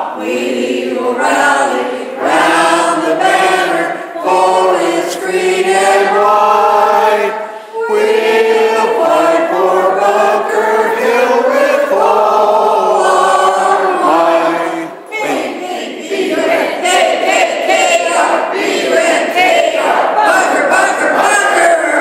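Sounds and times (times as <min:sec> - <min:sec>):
women singing together: 0:00.0 - 0:22.0.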